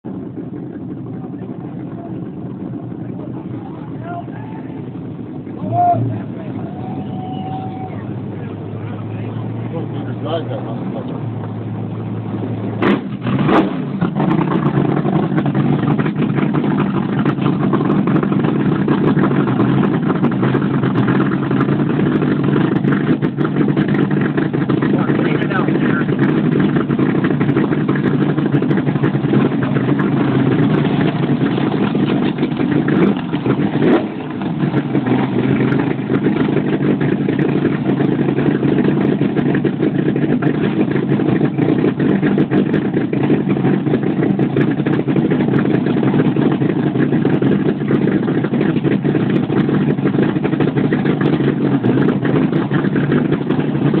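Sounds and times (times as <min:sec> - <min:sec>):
dragster engine idling: 0:00.0 - 0:54.0.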